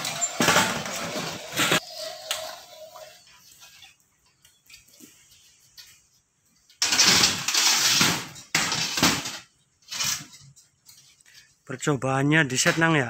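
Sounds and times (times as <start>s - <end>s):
metal rolling noise: 0.0s - 6.0s, 6.6s - 11.1s.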